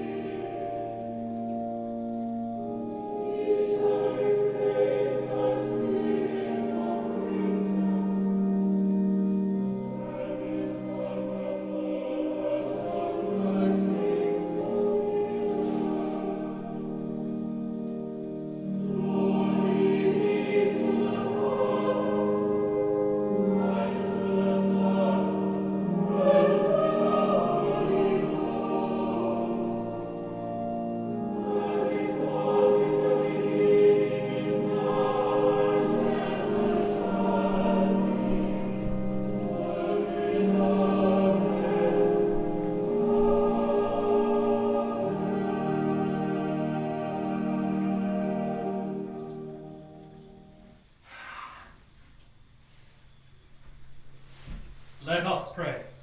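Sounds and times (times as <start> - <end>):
choir singing: 0.0 - 51.6.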